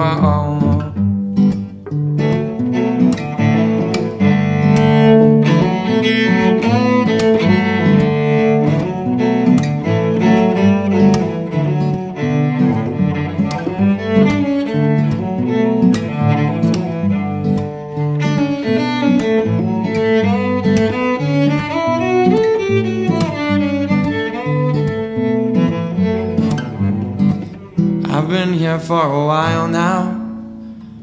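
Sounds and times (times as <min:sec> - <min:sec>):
acoustic guitar: 0:00.0 - 0:31.0
bowed cello melody: 0:00.0 - 0:31.0.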